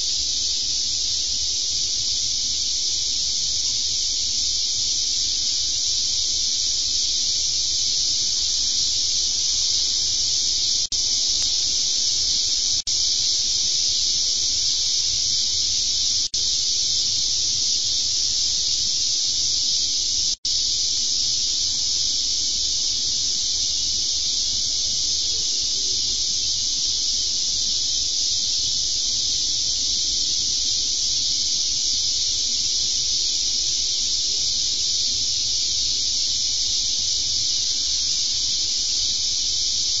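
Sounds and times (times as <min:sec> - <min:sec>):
steady high-pitched hiss: 0:00.0 - 0:40.0.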